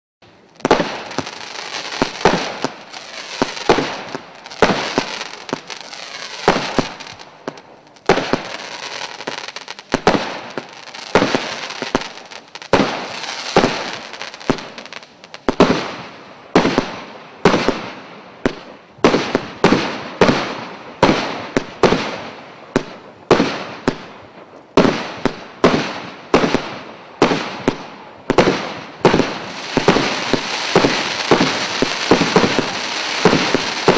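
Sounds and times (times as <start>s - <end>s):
fireworks bangs with crackling: 0.3s - 33.9s.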